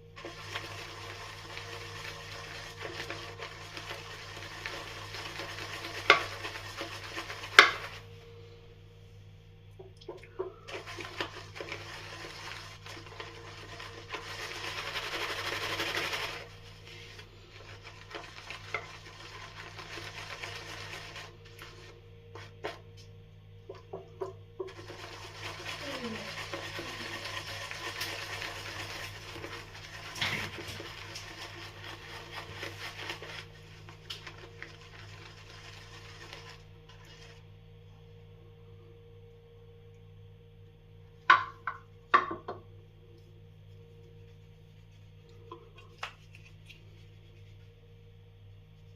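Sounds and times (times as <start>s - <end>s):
shaving brush swishing in bowl: 0.0s - 8.7s, 10.4s - 22.9s, 24.6s - 37.5s, 43.2s - 48.9s.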